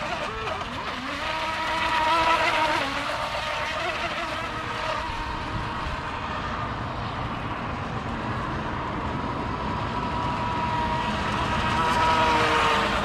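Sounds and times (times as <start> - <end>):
boat motor whining: 0.0 - 13.0.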